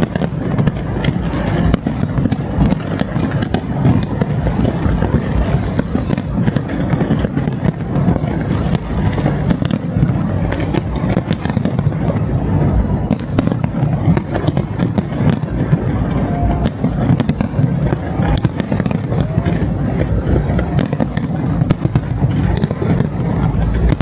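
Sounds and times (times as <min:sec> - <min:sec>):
booming firework bursts: 0:00.0 - 0:24.0
firework cracks: 0:00.0 - 0:24.0.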